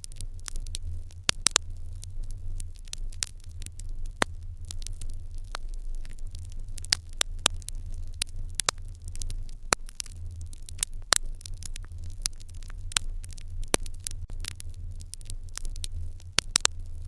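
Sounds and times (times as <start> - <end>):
steady low rumble: 0.0 - 17.0
wood fire crackling and popping: 0.0 - 17.0.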